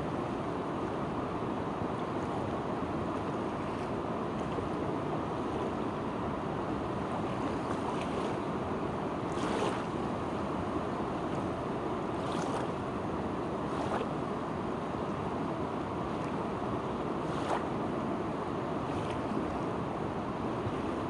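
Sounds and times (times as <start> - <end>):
river water rushing: 0.0 - 21.0
splashes of waves: 1.9 - 19.9.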